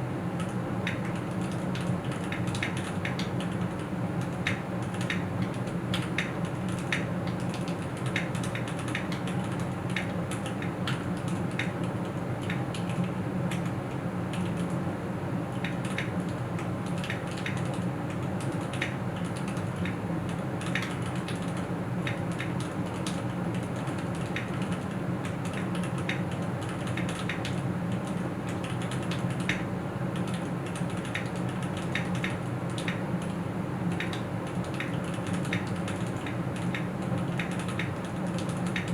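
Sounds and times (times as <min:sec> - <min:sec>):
mechanical keyboard typing: 0:00.4 - 0:13.7, 0:15.6 - 0:38.9.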